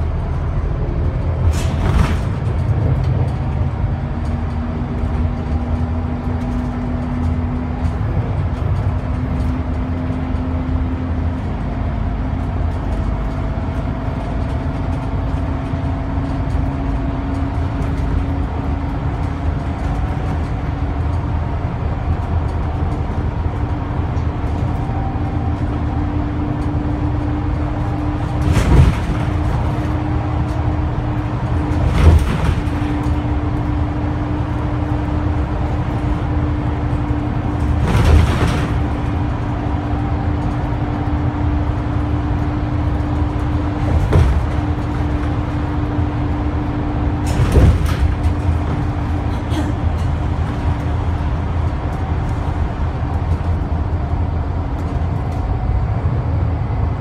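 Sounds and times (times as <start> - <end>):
thumps and rattles over bumps: 0.0 - 56.8
bus diesel engine droning: 0.0 - 57.0
tyre and road noise: 0.0 - 57.0.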